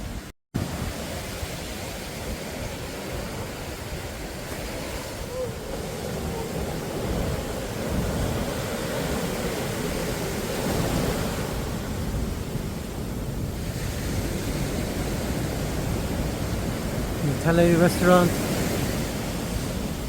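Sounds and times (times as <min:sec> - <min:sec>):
surf washing onto beach: 0:00.0 - 0:20.0
wind rumbling on microphone: 0:00.0 - 0:20.0.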